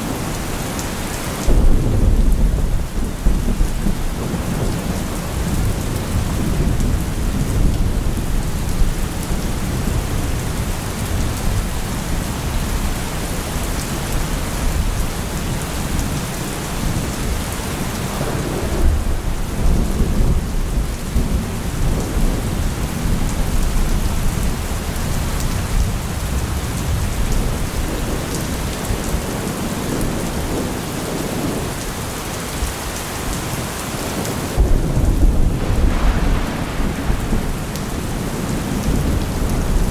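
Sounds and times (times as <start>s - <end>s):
heavy rain: 0.0s - 39.9s
low rolling thunder: 0.1s - 39.9s.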